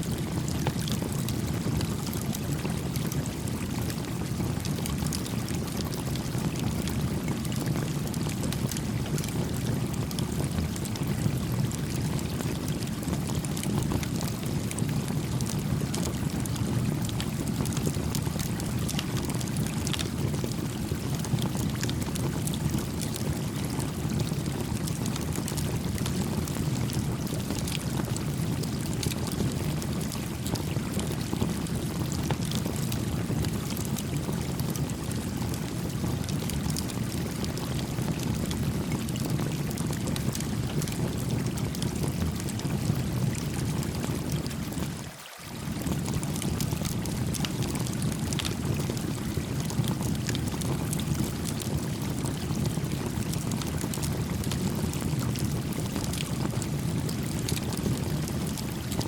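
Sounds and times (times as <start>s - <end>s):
stream running over rocks: 4.9s - 59.0s.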